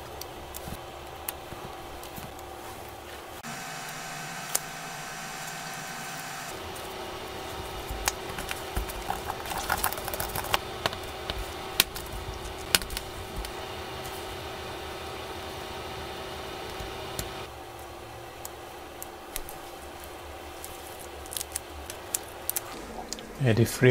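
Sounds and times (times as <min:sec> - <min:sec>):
steady background hum: 0:00.0 - 0:23.9.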